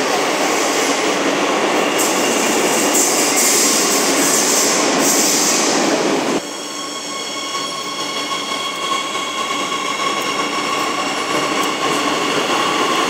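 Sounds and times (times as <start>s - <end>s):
train high whine: 0.0s - 13.0s
train rumbling: 0.0s - 13.0s.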